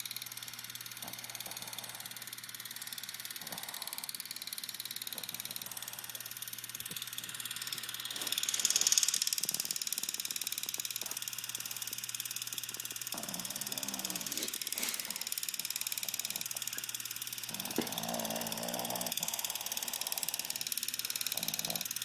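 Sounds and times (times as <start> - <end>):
puppy snoring: 0.7 - 22.0.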